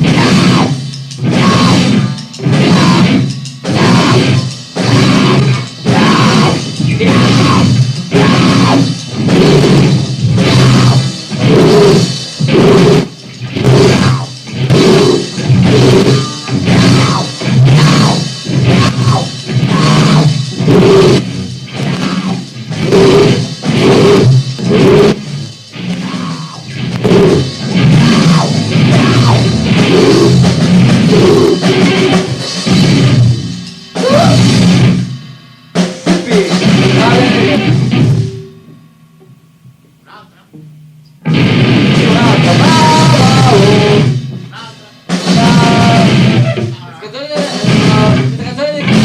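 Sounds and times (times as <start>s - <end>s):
distorted noise rock: 0.0s - 49.0s.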